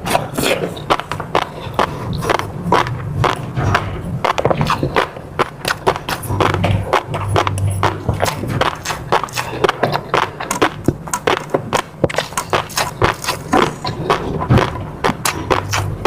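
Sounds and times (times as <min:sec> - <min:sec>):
person chewing with wet smacks: 0:00.0 - 0:16.0.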